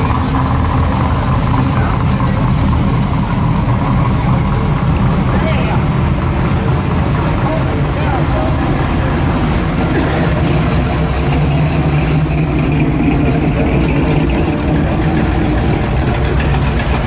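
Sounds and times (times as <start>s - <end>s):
car engines low exhaust rumble: 0.0s - 17.0s.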